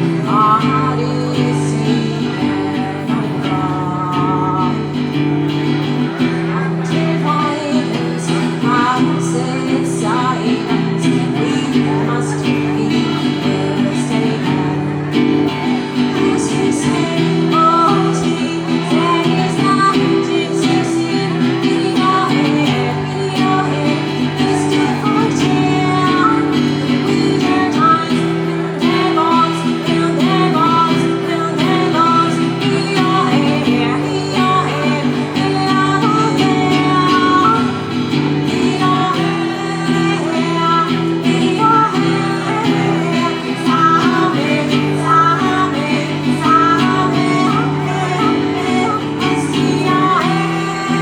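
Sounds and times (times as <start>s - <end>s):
acoustic guitar strumming: 0.0s - 51.0s
person singing: 0.0s - 51.0s.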